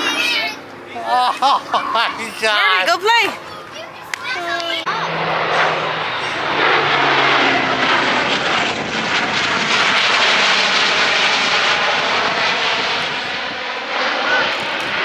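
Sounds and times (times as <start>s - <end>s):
aircraft passing overhead: 0.0s - 15.0s.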